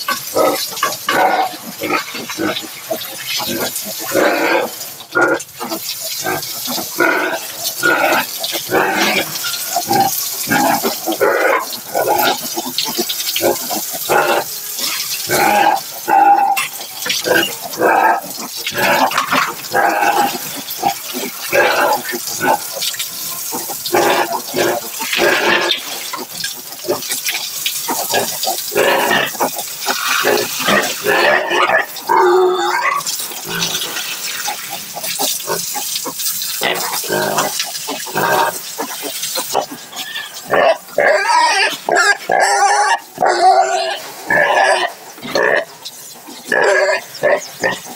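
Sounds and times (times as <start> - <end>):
hose spraying water on concrete: 0.0 - 47.9
piglets squealing and grunting: 0.0 - 47.9.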